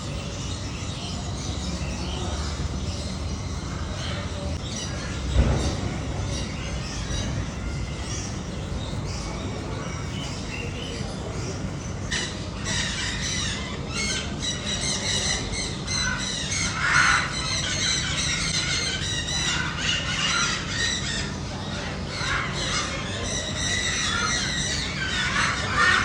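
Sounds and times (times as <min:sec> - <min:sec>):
caged birds squawking and chattering: 0:00.0 - 0:26.0.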